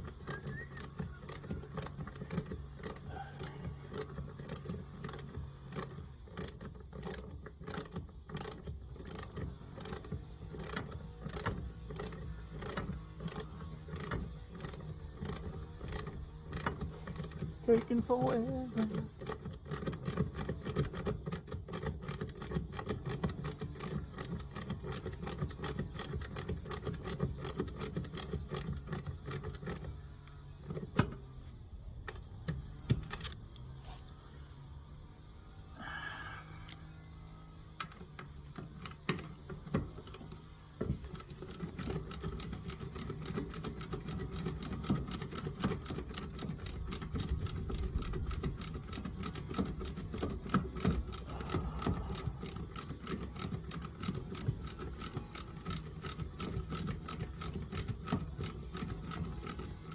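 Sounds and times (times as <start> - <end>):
rapid mechanical clattering: 0.0 - 34.1, 35.8 - 59.9
low steady hum: 0.0 - 59.9.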